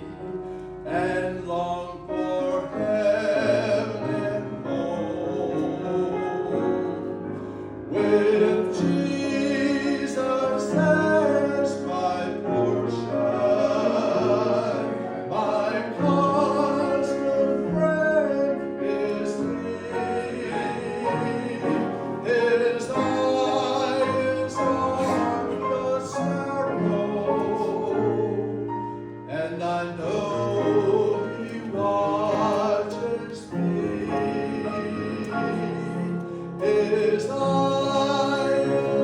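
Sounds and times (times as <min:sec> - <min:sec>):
gospel singing: 0:00.0 - 0:39.0
instrumental accompaniment: 0:00.0 - 0:39.0.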